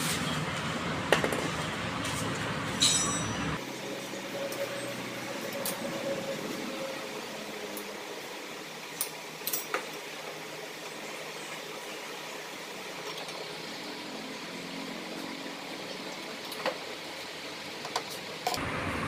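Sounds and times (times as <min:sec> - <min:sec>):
workshop background hum: 0:00.0 - 0:19.0.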